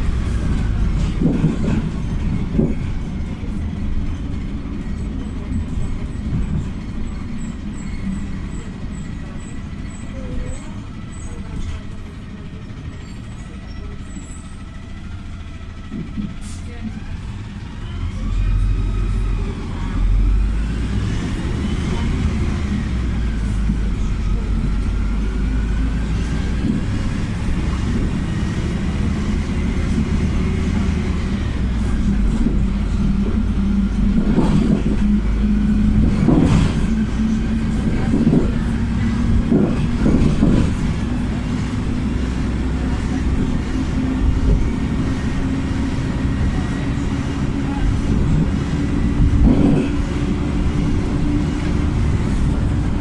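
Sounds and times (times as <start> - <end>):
bus engine rumble: 0.0 - 53.0
engine whine: 0.0 - 53.0.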